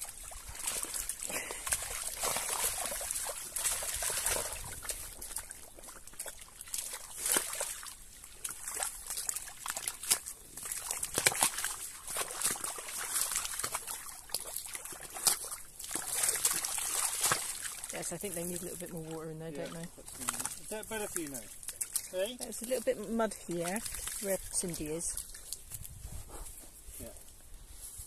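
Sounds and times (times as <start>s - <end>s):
mud squelching and sloshing: 0.0s - 26.2s.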